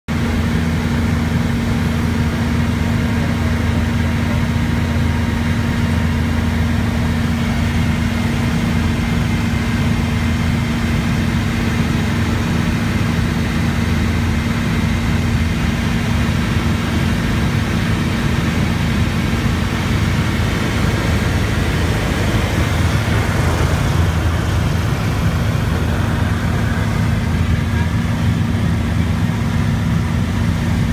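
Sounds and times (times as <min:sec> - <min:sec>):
helicopter engine and rotor drone: 0:00.1 - 0:30.9.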